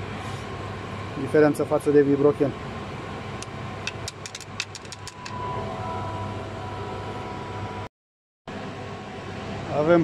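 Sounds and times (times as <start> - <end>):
steady background hum: 0.0 - 7.9, 8.5 - 10.0.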